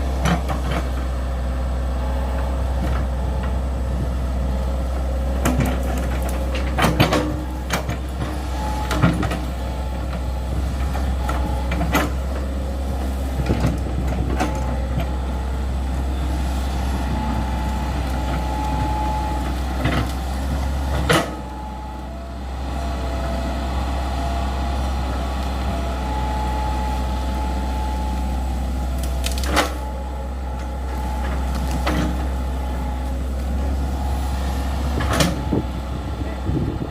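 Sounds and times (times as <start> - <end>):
excavator diesel engine: 0.0 - 36.9.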